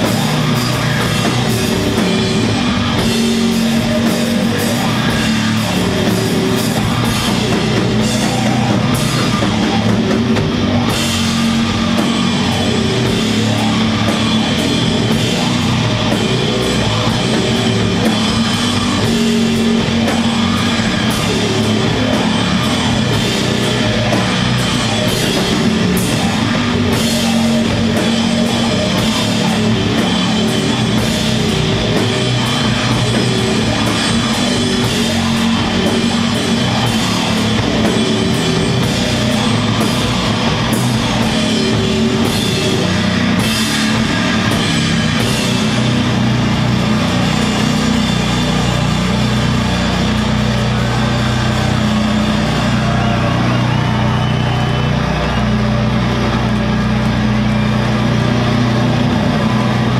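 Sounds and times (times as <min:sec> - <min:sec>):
distorted guitars and bass: 0:00.0 - 0:59.9
drums and cymbal crashes: 0:00.0 - 0:59.9.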